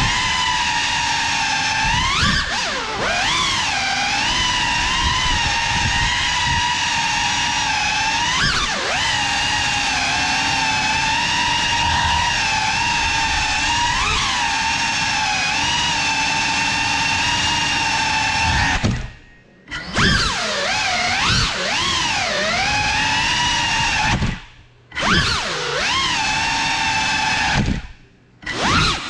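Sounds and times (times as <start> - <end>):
drone motors and propellers whining: 0.0 - 29.0.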